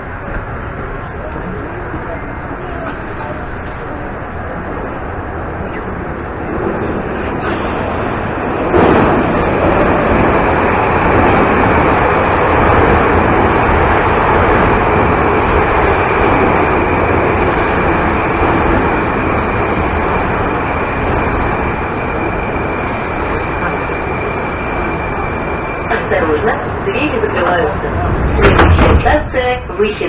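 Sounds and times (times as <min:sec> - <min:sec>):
train wheels and motors rumbling: 0:00.0 - 0:30.0.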